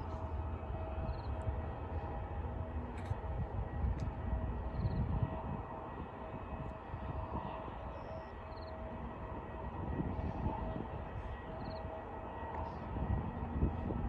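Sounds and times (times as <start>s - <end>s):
faint jet engine whine: 0.0s - 14.0s
jet engines low rumble: 0.0s - 14.0s.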